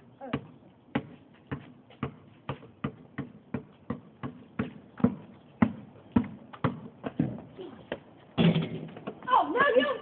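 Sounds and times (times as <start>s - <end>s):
basketball bouncing on concrete: 0.2s - 9.3s.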